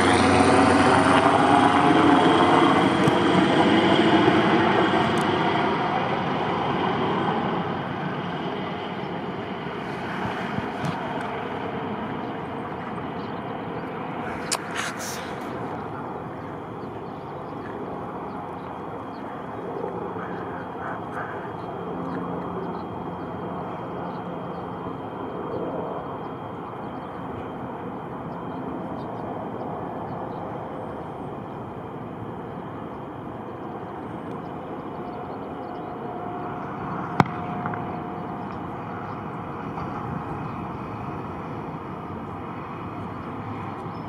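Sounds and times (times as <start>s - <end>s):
aircraft engine noise: 0.0s - 44.0s.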